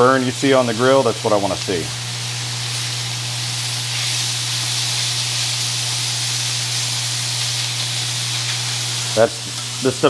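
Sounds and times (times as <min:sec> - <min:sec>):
vegetables sizzling on grill: 0:00.0 - 0:10.0.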